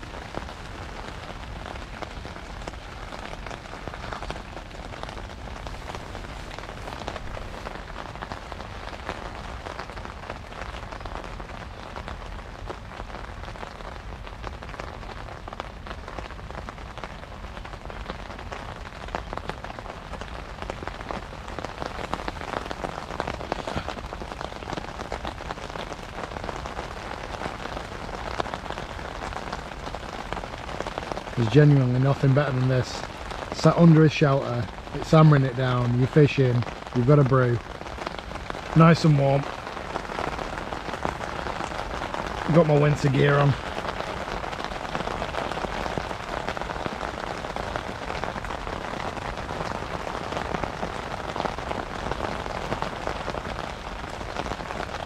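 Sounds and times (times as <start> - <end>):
heavy rain on fabric canopy: 0.0 - 55.0.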